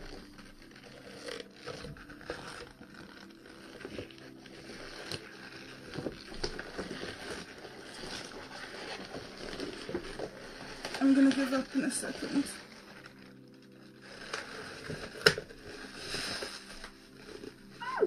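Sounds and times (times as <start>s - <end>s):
rubber mask rustling and creaking: 0.0s - 18.0s.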